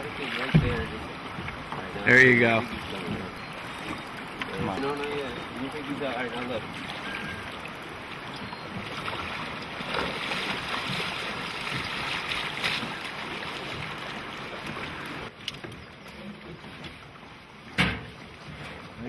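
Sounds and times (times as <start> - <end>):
river water rushing: 0.0 - 15.3.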